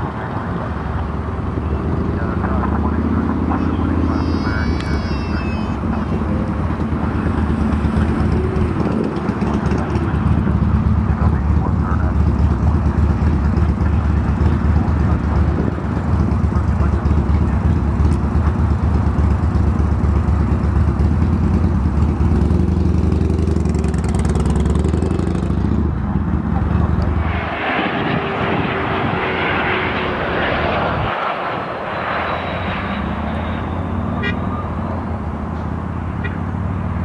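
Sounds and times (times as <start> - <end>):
jet engines rumbling: 0.0 - 37.0.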